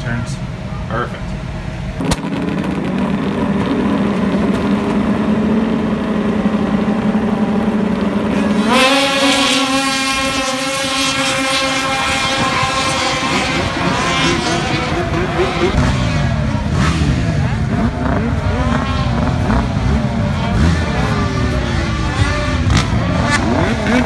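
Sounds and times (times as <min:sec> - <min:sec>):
two-stroke snowmobile engines running: 0:00.0 - 0:24.0.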